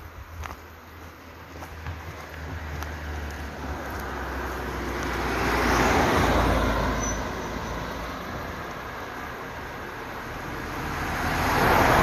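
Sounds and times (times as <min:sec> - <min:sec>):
car passing by: 0:01.2 - 0:12.0.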